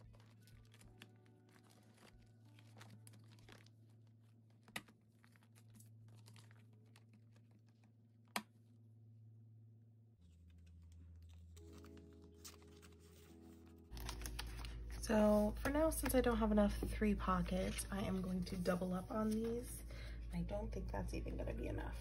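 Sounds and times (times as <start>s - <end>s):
plastic sleeves crinkling: 0.0s - 8.6s, 10.2s - 19.8s.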